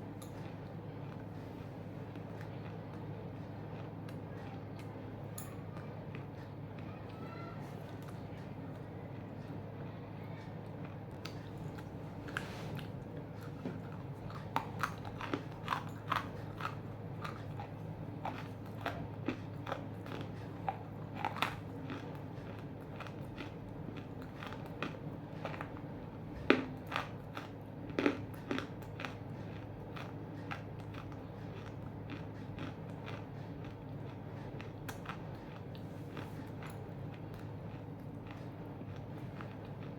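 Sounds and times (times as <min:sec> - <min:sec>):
crunching and chewing: 0:00.0 - 0:39.9
steady low hum: 0:00.0 - 0:39.9.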